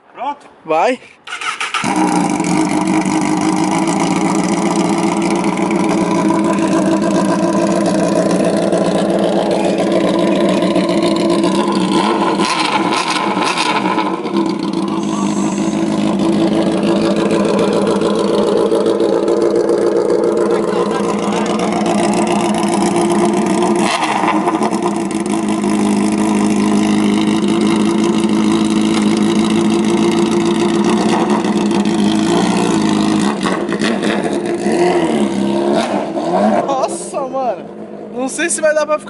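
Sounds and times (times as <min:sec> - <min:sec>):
motorcycle engine idling loudly: 0:01.8 - 0:34.6.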